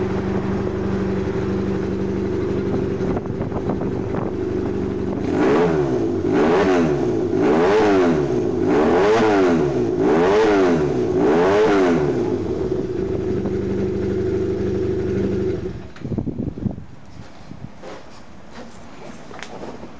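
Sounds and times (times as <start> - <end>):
engine cutting off with clatters: 0.0 - 16.2
motorcycle engine revving and idling: 0.0 - 16.7.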